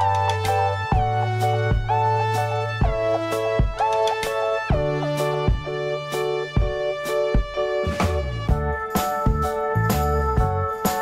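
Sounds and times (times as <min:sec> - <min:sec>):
instrumental music with drum beat: 0:00.0 - 0:11.0.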